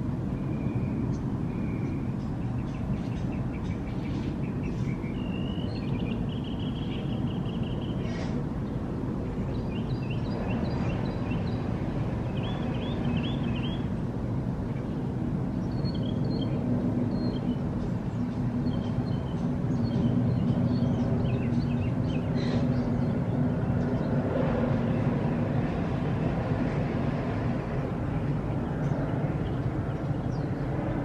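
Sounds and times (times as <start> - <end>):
songbirds chirping: 0.0 - 31.0.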